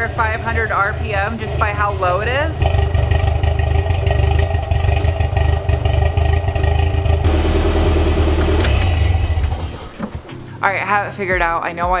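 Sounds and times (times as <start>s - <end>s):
car engine idling roughly: 0.1s - 10.1s.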